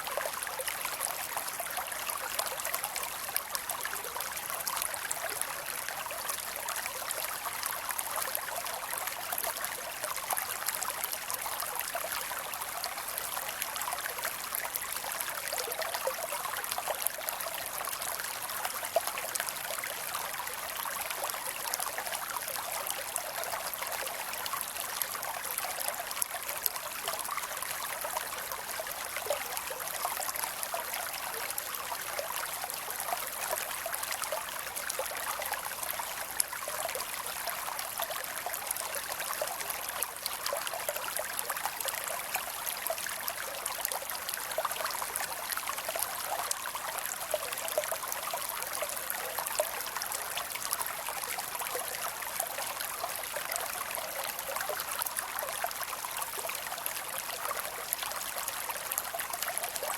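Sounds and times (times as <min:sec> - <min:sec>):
creek trickling over rocks: 0:00.0 - 0:59.9.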